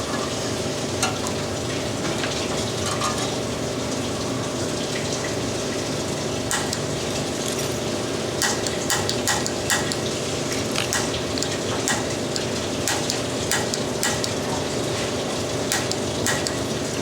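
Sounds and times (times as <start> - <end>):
water running through pipes: 0.0 - 17.0.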